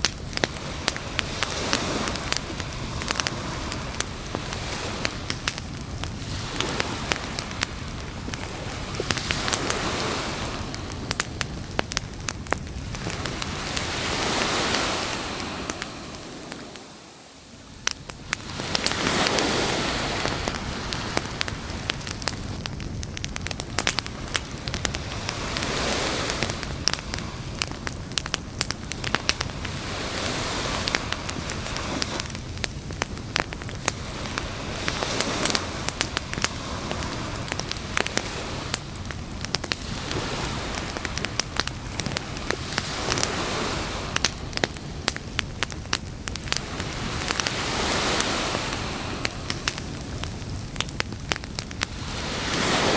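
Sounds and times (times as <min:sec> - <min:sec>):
campfire crackling: 0:00.0 - 0:52.9.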